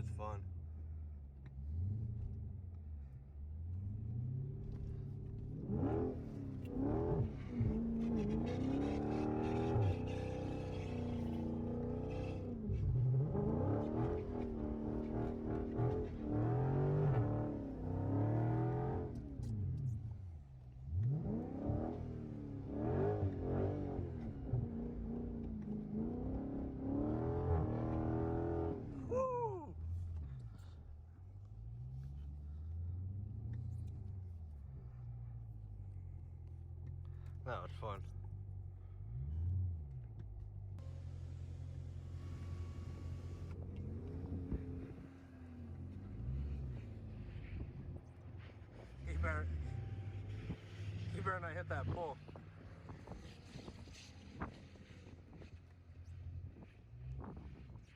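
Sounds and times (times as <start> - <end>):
car engine revving: 3.7 - 30.8, 35.9 - 57.4.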